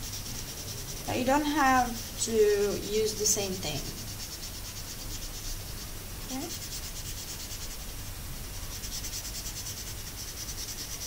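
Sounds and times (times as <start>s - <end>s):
marker scratching on paper: 0.0s - 8.0s, 8.6s - 11.0s.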